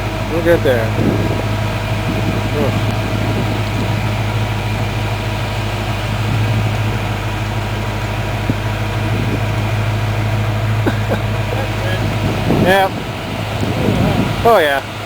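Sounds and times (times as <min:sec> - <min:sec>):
engine running with low drone: 0:00.0 - 0:15.0.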